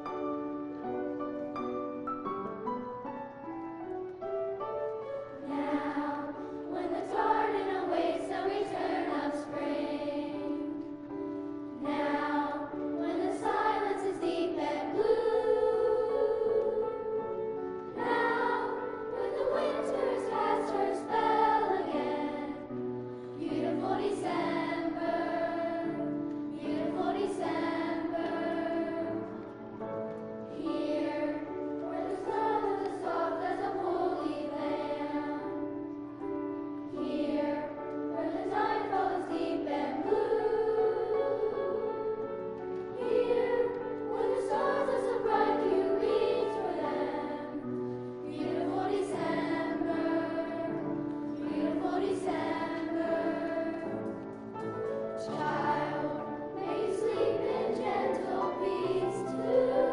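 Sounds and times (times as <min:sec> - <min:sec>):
choir singing: 0:05.0 - 0:59.9.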